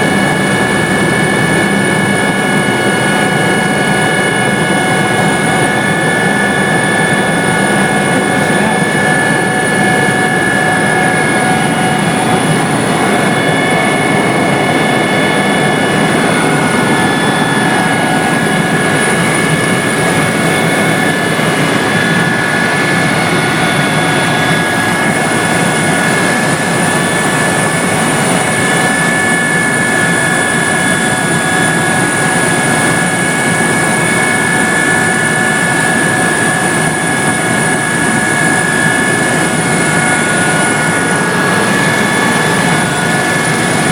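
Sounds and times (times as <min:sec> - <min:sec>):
helicopter rotor and engine: 0:00.0 - 0:43.9
high whining tones: 0:00.0 - 0:43.9.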